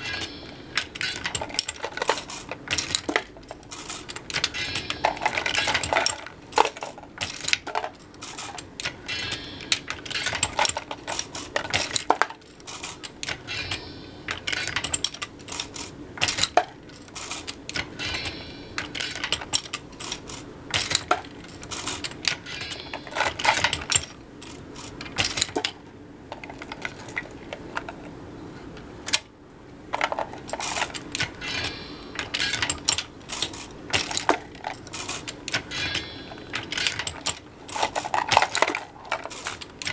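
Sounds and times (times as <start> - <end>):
reloading press metallic clicks: 0.0 - 25.8, 30.5 - 39.9.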